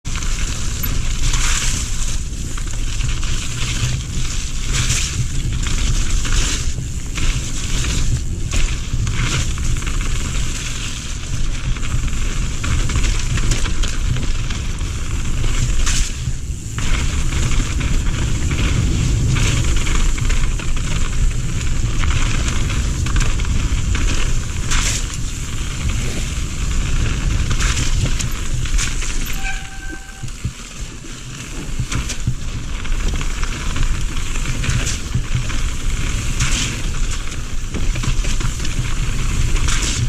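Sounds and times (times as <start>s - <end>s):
bike rattling and knocking: 0.0s - 40.0s
low wind rumble: 0.0s - 40.0s
bike tyres crunching over dirt: 0.1s - 40.0s.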